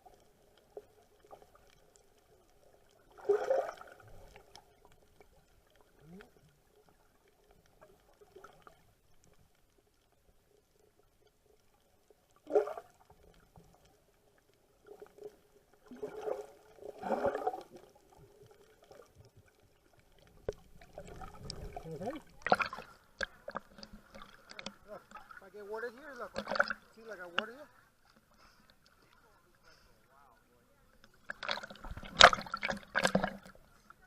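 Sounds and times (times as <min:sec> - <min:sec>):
water sloshing and splashing: 0:00.0 - 0:30.0, 0:30.9 - 0:34.0.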